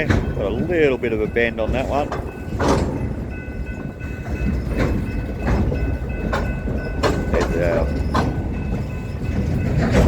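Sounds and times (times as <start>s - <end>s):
low rolling train rumble: 0.0s - 10.0s
train wheels clacking over crossing: 0.0s - 10.0s.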